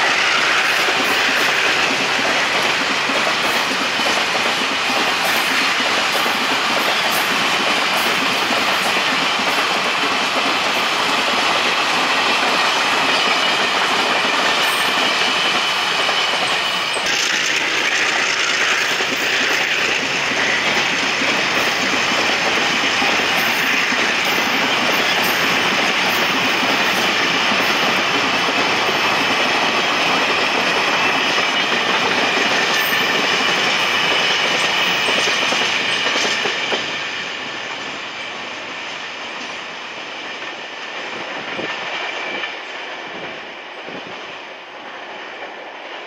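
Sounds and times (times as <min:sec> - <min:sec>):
train wheels rolling on track: 0:00.0 - 0:46.0.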